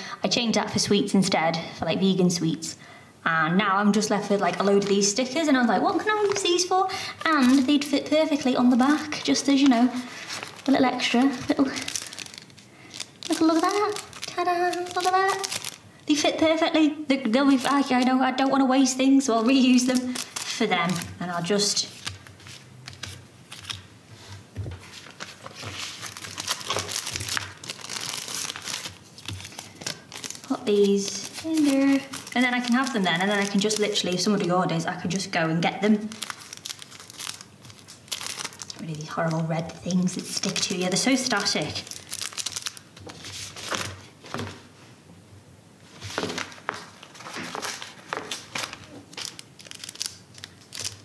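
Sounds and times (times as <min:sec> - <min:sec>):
cellophane crinkling: 0:04.0 - 0:16.7, 0:17.4 - 0:18.6, 0:19.2 - 0:44.7, 0:45.9 - 0:51.0.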